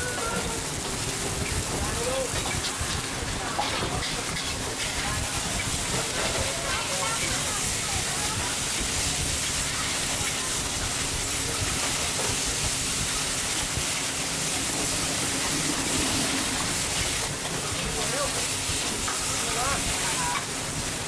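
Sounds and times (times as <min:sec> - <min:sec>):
noodles sizzling in a wok: 0:00.0 - 0:21.0.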